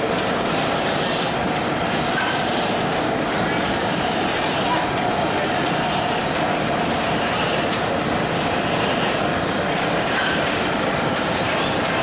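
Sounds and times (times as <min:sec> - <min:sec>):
belted machines running: 0:00.0 - 0:12.0
belts and pulleys running: 0:00.0 - 0:12.0.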